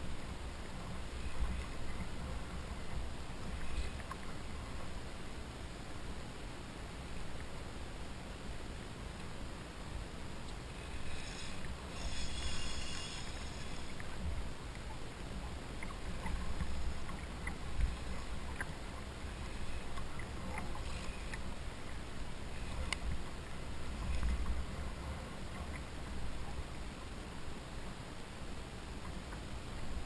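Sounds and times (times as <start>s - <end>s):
water and wind rumble: 0.0s - 30.0s.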